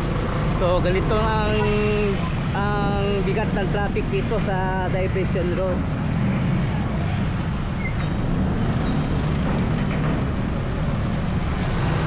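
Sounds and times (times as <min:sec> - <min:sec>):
motorcycles passing close: 0:00.0 - 0:12.0
traffic engines idling: 0:00.0 - 0:12.0.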